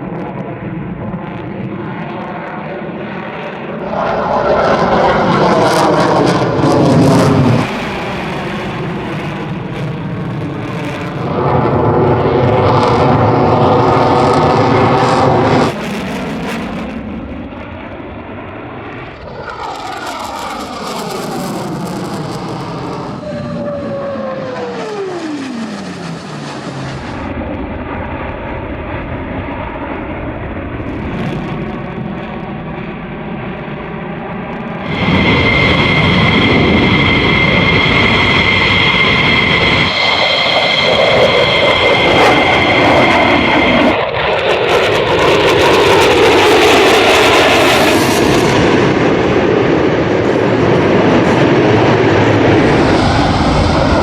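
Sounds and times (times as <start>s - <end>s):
jet engine whine: 0.0s - 54.0s
loud jet roar: 0.0s - 54.0s.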